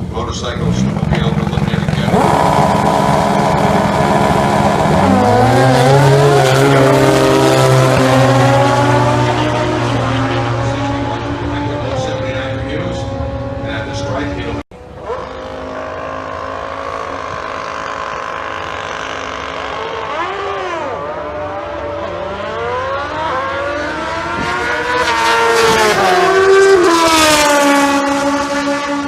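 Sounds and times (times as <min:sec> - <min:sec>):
racing engines revving: 0:00.0 - 0:29.0.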